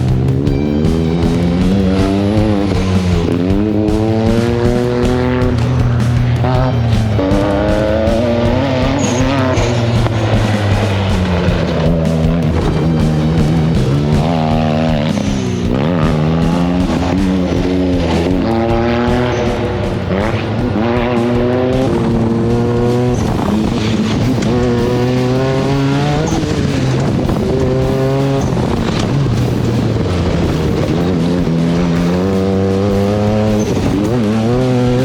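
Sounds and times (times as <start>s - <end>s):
buggy engine revving hard: 0.0s - 35.0s.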